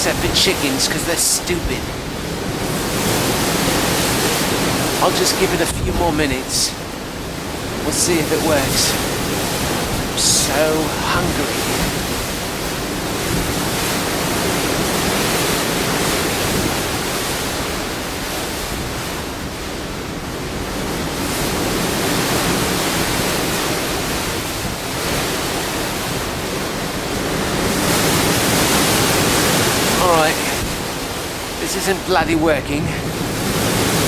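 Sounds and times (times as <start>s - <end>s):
sea: 0.0s - 34.0s
wind: 0.0s - 34.0s.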